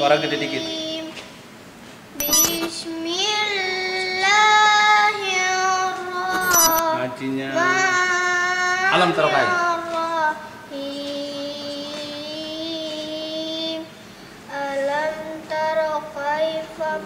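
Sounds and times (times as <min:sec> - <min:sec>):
boy chanting melodically: 0:02.6 - 0:17.0.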